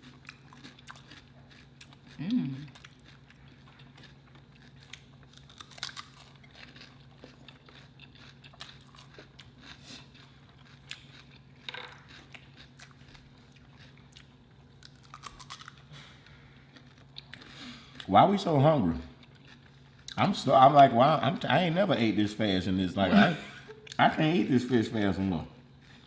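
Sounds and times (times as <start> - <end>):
crunching and chewing fried food: 0.0 - 21.2, 23.8 - 26.0
low steady hum: 0.0 - 26.0.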